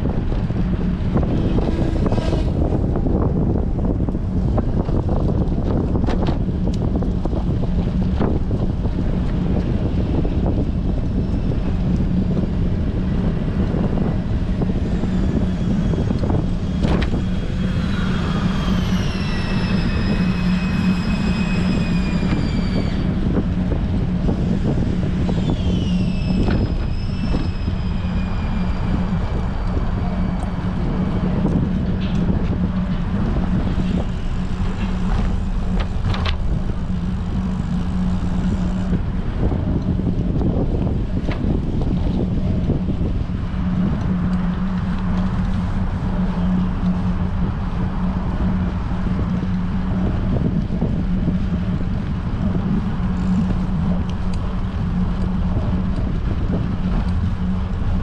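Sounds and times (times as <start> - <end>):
high whine sliding down: 0.0 - 58.0
steady low hum: 0.0 - 58.0
wind buffeting a microphone: 0.0 - 58.0.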